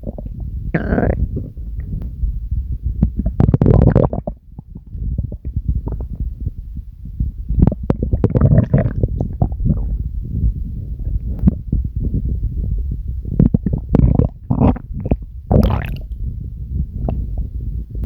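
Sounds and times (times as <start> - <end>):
stomach growling: 0.0 - 18.0.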